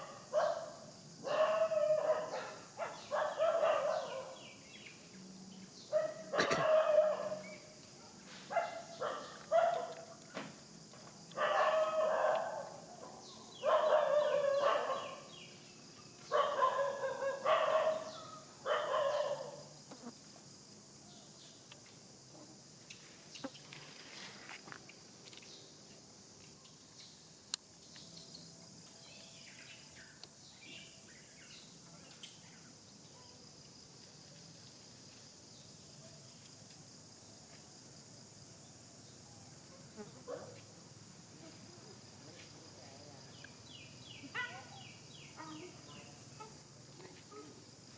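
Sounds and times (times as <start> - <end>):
high insect drone: 0.0 - 47.9.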